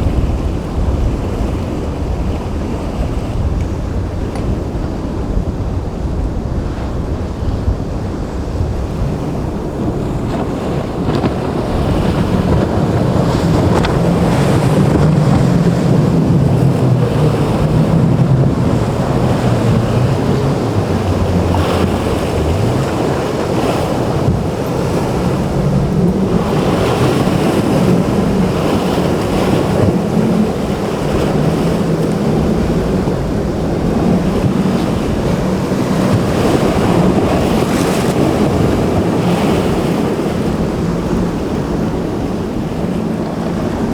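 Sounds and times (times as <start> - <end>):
boat engines humming: 0.0 - 43.9
waves breaking: 0.0 - 43.9
wind on microphone: 0.0 - 43.9.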